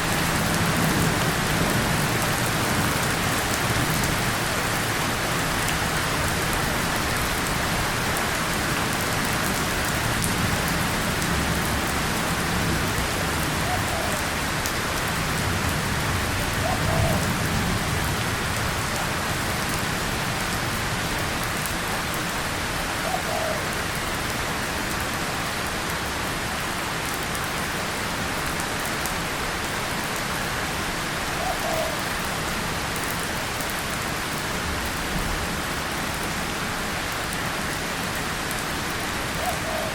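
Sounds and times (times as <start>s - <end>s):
rain on tin and leaves: 0.0s - 39.9s.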